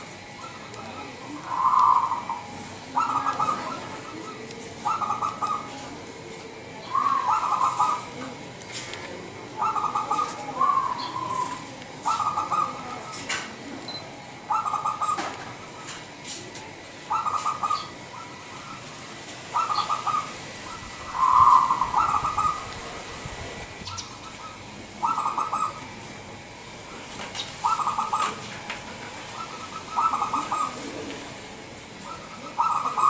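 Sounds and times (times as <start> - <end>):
dove cooing: 0.0 - 8.4, 9.2 - 13.8, 14.4 - 16.2, 16.8 - 23.1, 23.8 - 26.1, 27.4 - 33.0.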